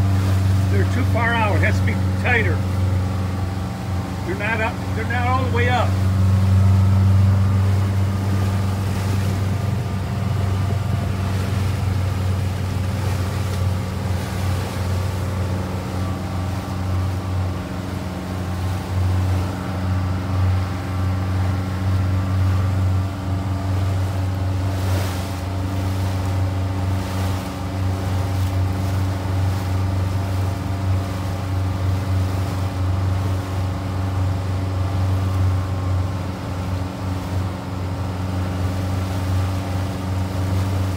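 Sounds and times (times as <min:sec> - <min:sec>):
motorboat engine running: 0:00.0 - 0:40.9
water against hull: 0:00.0 - 0:40.9
wind: 0:00.0 - 0:40.9.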